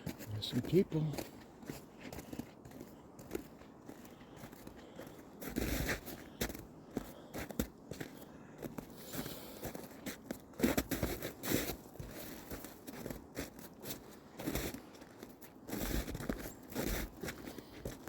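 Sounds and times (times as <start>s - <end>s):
footsteps crunching in snow: 0.0s - 18.0s.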